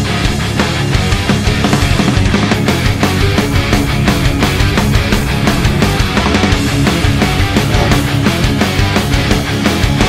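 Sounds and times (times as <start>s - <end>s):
loud music with driving beat: 0.8s - 9.6s.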